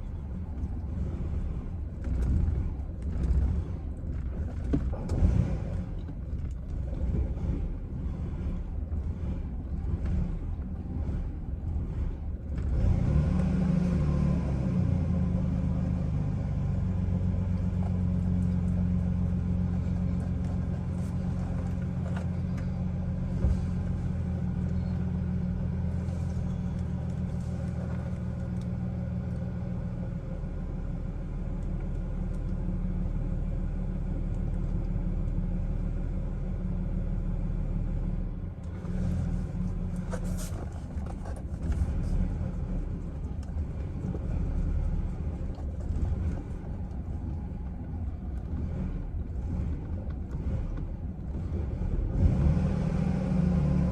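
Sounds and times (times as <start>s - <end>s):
engine idling: 0.0s - 13.8s, 14.9s - 52.4s.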